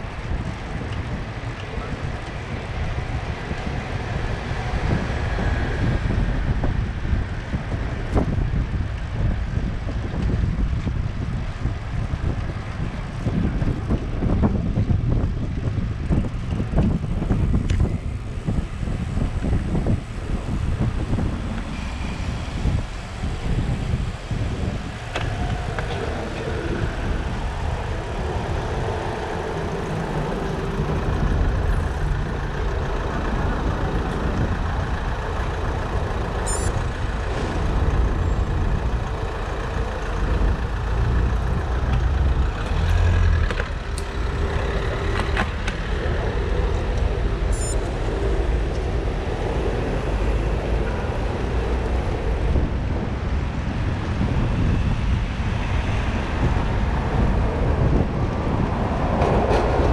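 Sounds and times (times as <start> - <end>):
road noise: 0.0 - 59.9
vehicle engines passing: 0.0 - 59.9
wind on microphone: 0.0 - 59.9.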